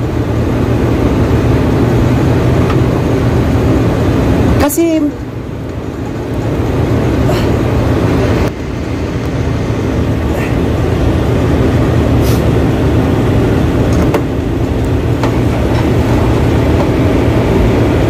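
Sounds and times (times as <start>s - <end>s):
air-conditioning machinery drone: 0.0s - 18.0s.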